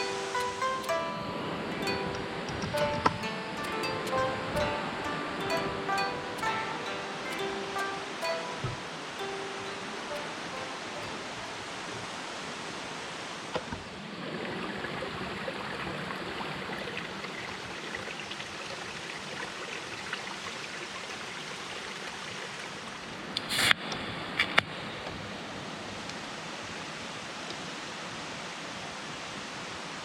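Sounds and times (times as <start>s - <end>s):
river water rushing: 0.0s - 23.4s, 24.1s - 30.0s.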